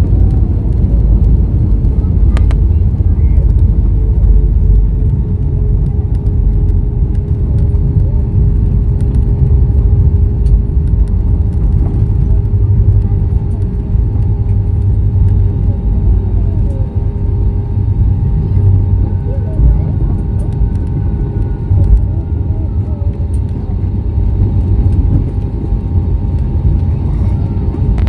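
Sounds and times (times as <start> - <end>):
jet airliner rumbling on runway: 0.0 - 28.0.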